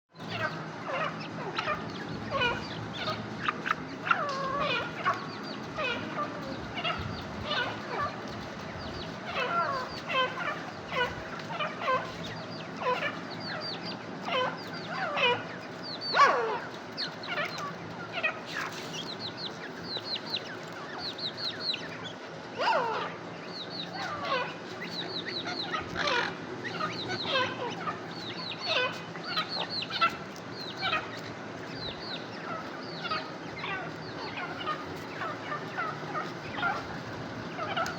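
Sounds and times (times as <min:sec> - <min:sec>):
partridges calling: 0:00.2 - 0:37.9.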